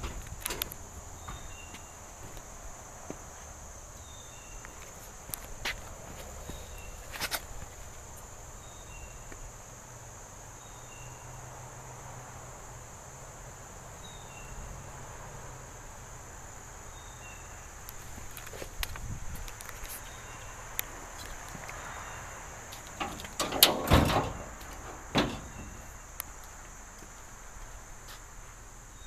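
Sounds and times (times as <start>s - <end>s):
high insect buzz: 0.0s - 29.0s.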